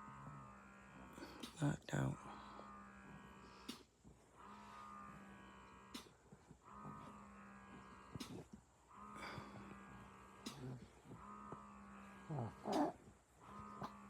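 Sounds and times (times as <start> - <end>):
baby snoring faintly: 0.0 - 14.0.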